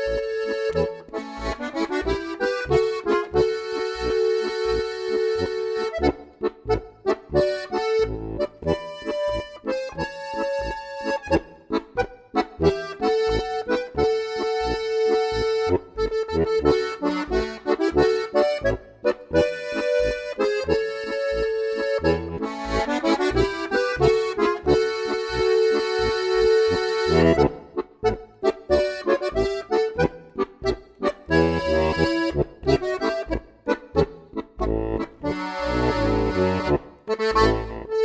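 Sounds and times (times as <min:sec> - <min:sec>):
button accordion tune: 0:00.0 - 0:38.0.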